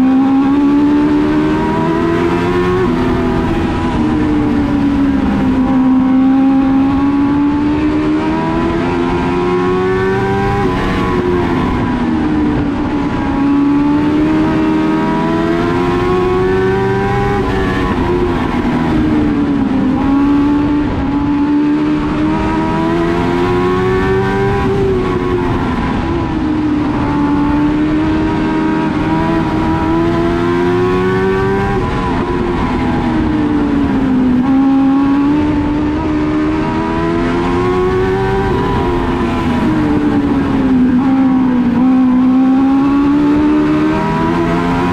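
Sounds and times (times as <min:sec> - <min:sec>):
race car engine accelerating: 0:00.0 - 0:44.9.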